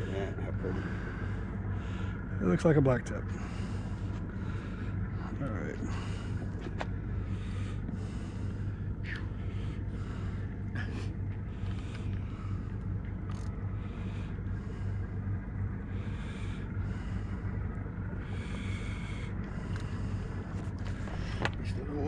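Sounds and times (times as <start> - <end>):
boat engine idling: 0.0 - 22.0
pulsing hiss: 0.0 - 22.0.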